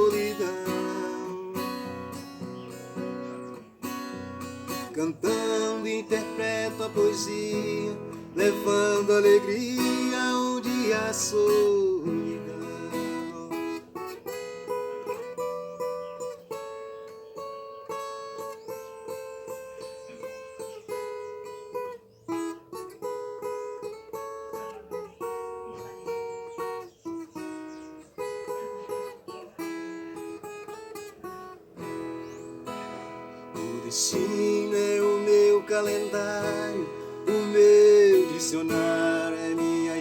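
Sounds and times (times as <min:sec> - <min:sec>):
plucked strings playing a melody: 0:00.0 - 0:40.0.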